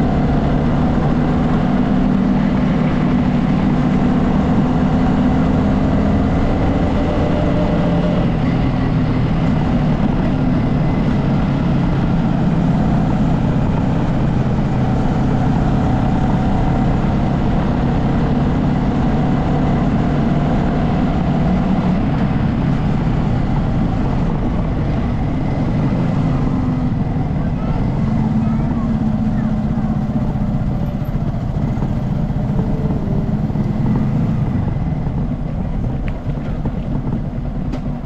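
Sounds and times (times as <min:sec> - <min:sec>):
road and wind noise: 0:00.0 - 0:38.0
vehicle engine under load: 0:00.0 - 0:38.0.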